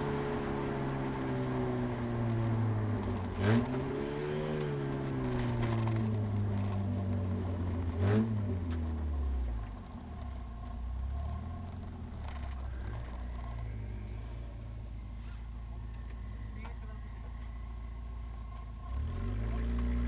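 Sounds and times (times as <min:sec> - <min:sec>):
car engine slowing down: 0:00.0 - 0:20.0.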